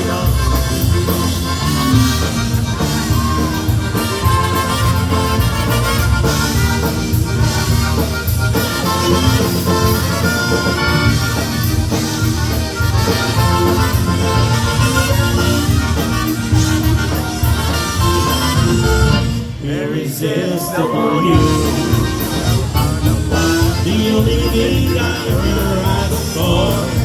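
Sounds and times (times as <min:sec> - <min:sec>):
accordion: 0:00.0 - 0:19.6, 0:21.1 - 0:27.0
polka band playing: 0:00.0 - 0:19.6, 0:20.6 - 0:27.0
steady drum beat: 0:00.0 - 0:19.6, 0:21.1 - 0:27.0.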